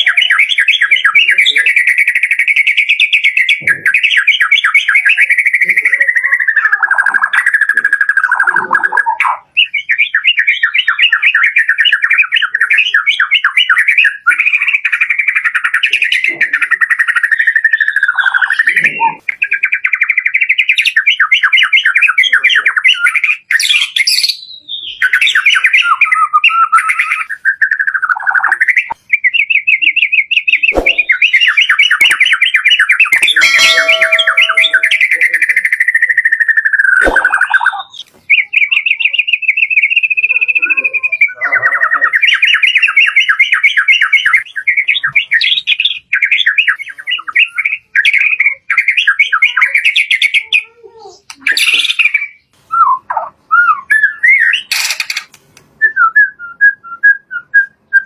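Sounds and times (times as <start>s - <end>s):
bird singing trilled song: 0.0s - 58.0s.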